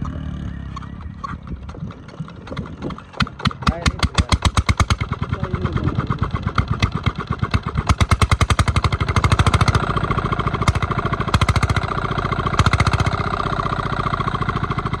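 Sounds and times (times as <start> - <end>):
engine knocks: 0.0 - 15.0
stationary engine chugging: 0.0 - 15.0.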